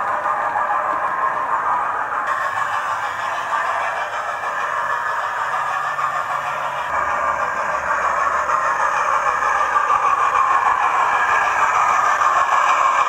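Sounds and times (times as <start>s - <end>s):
model train rumbling on track: 0.0s - 13.0s
steam locomotive sounds from speaker: 0.0s - 13.0s.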